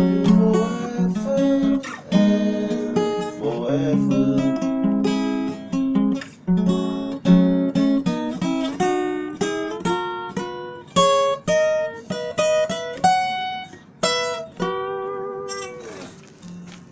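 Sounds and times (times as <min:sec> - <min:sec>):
acoustic guitar playing: 0:00.0 - 0:16.9.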